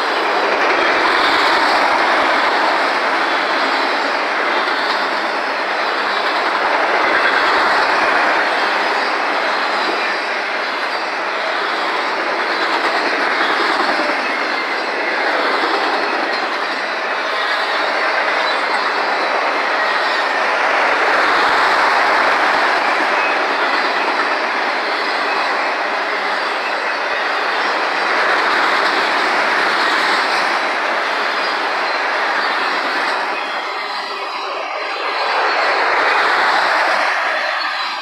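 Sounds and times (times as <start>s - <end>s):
freight cars rolling on rails: 0.0s - 38.0s.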